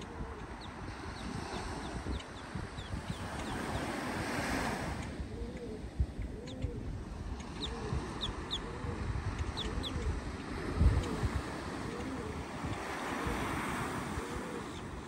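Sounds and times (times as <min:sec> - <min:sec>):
surf washing on beach: 0:00.0 - 0:05.3, 0:07.0 - 0:15.0
wind rumble on microphone: 0:00.0 - 0:15.0.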